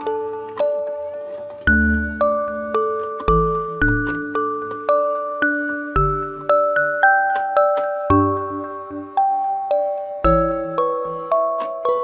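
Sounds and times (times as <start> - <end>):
chiming bell-like notes: 0.0 - 12.0.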